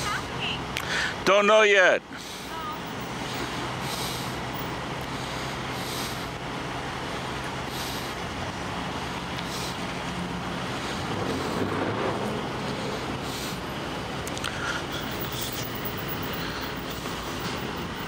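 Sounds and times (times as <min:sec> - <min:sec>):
traffic noise: 0:00.0 - 0:18.0
vehicle engine idling: 0:00.0 - 0:18.0.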